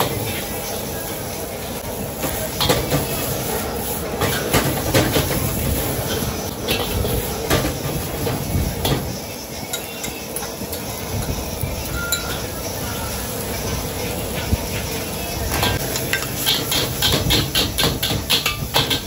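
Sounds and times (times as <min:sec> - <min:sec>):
gas burner roar: 0:00.0 - 0:19.0
utensils clanking against pans: 0:00.0 - 0:19.0.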